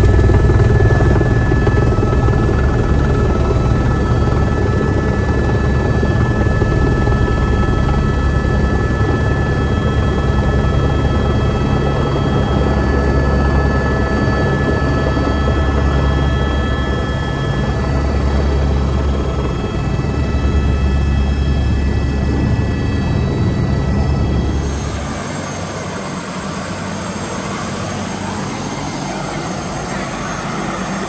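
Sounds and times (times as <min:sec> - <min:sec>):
helicopter rotor and engine noise: 0:00.0 - 0:31.0.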